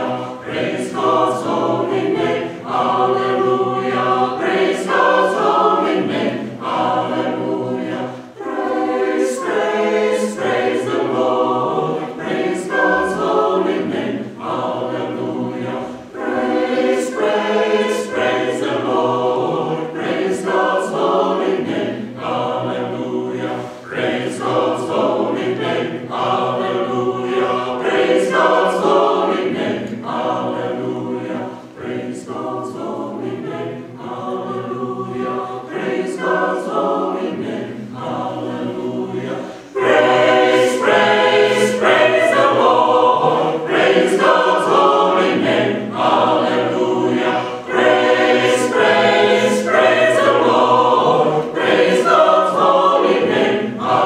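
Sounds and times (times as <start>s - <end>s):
mixed choir singing a cappella: 0.0s - 54.0s.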